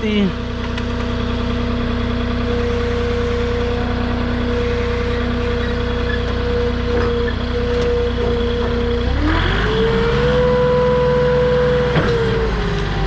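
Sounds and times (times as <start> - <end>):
forklift engine idling and revving: 0.0 - 13.0.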